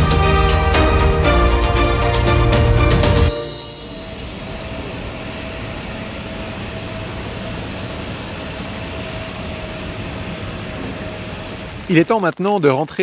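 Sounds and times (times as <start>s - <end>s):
electric locomotive whirring hum: 0.0s - 12.0s
thin steady whine: 0.4s - 12.4s.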